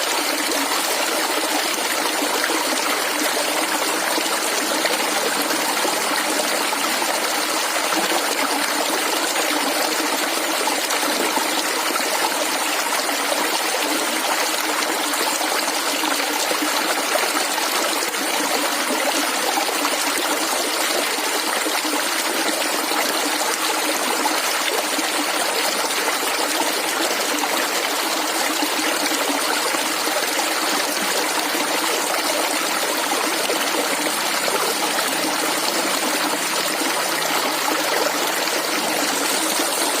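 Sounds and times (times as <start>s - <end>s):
gurgling stream: 0.0s - 40.0s.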